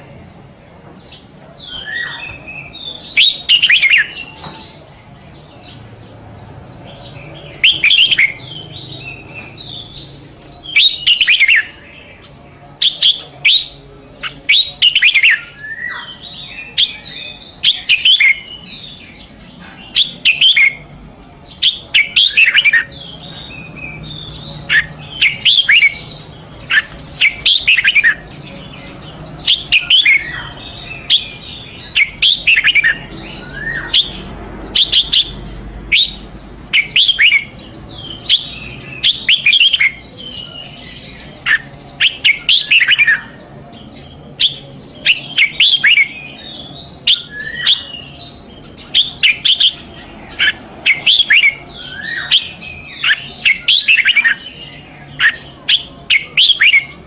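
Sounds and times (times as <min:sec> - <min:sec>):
bird singing sharp chirping notes: 0:00.0 - 0:57.0.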